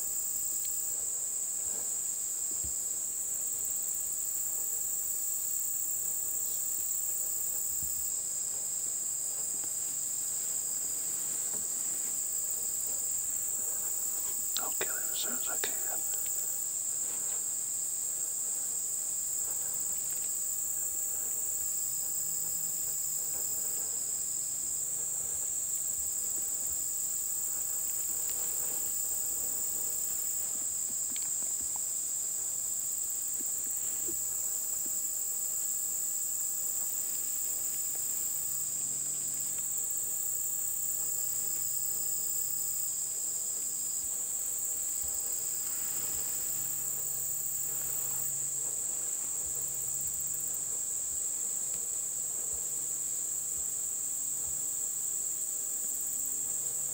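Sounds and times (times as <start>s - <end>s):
crickets high-pitched drone: 0.0s - 56.9s
lower insect call: 0.0s - 56.9s.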